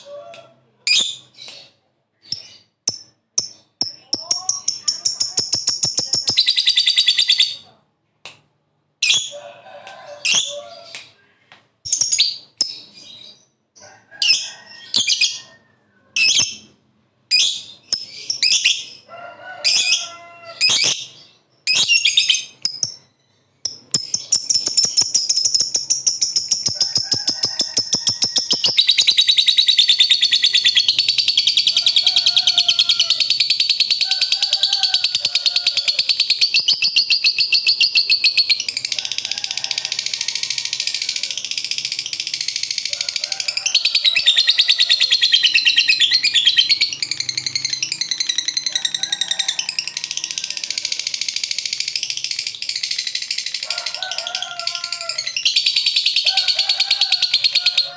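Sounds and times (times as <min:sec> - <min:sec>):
lovebird chirping and trilling: 0:00.8 - 0:07.7, 0:09.0 - 0:09.4, 0:10.2 - 0:11.0, 0:11.8 - 0:13.6, 0:14.2 - 0:39.3, 0:43.5 - 0:57.9.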